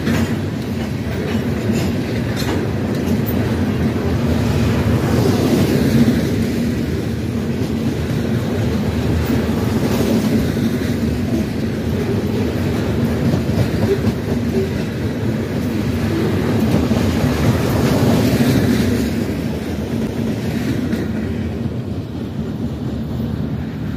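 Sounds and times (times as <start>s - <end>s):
freight train wheels rolling: 0.0s - 23.9s.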